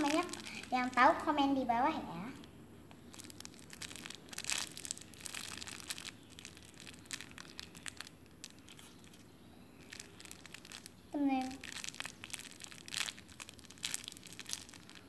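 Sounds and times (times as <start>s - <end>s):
plastic packaging crinkling: 0.0s - 1.3s, 2.3s - 15.0s.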